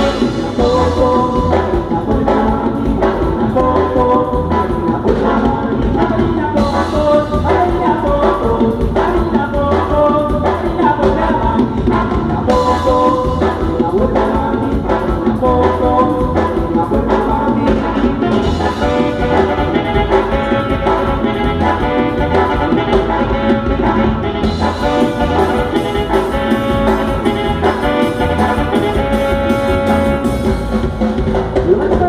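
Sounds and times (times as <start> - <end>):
brass band music: 0.0 - 32.0.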